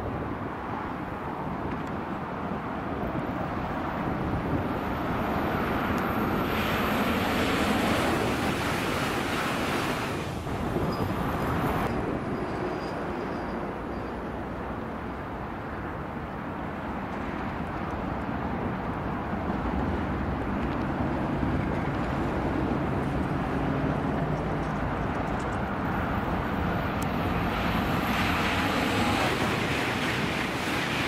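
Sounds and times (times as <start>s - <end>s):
motorway traffic noise: 0.0s - 31.0s
high-speed train rushing past: 2.6s - 16.0s, 18.3s - 31.0s.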